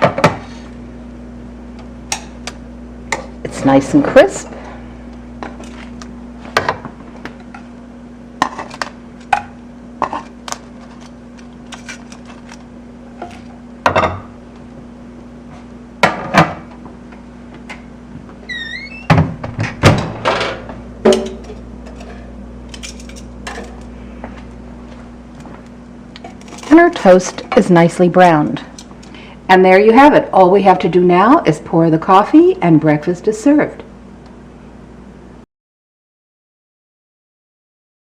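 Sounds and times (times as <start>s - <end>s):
steady low hum: 0.0s - 35.5s.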